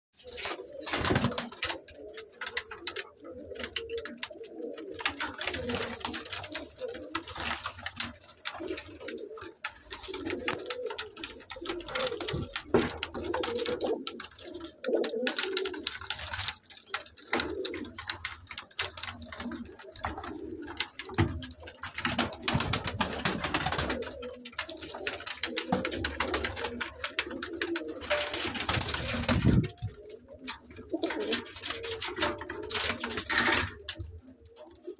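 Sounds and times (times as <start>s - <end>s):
birds clicking and scuffling: 0.2s - 34.9s
pigeons cooing: 0.2s - 34.9s.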